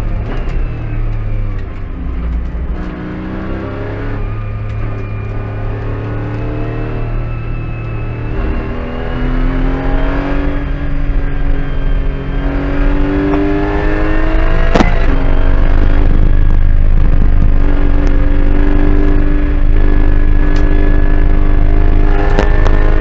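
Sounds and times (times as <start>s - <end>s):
car engine at full throttle: 0.0s - 23.0s.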